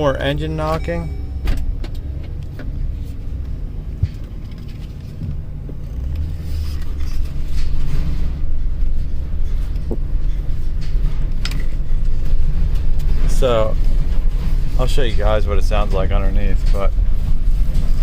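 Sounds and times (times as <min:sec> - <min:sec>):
engine idling with low rumble: 0:00.0 - 0:18.0.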